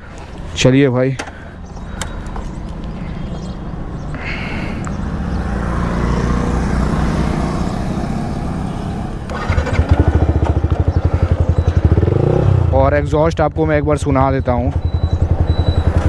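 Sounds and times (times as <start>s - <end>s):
motorcycle engine revving: 0.0s - 13.1s, 13.8s - 16.0s.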